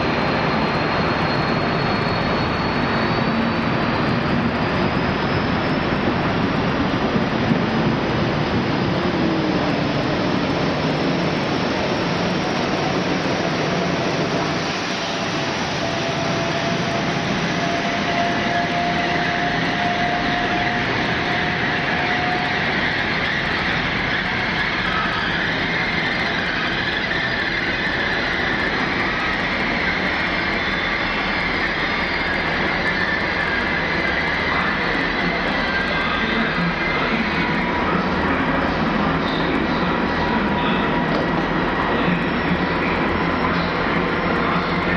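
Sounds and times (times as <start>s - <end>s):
diesel train engine noise: 0.0s - 44.9s
high whine: 0.0s - 44.9s.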